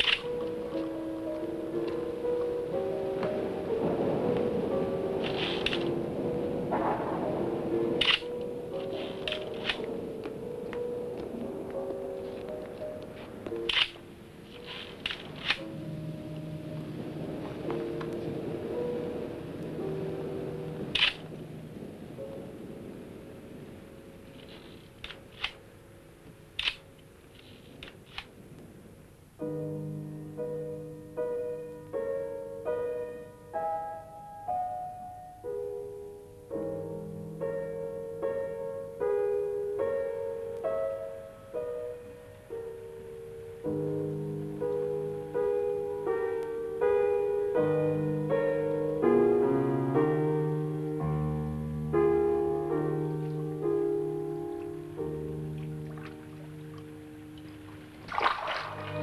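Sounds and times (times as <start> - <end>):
slow piano melody: 0.0 - 59.0.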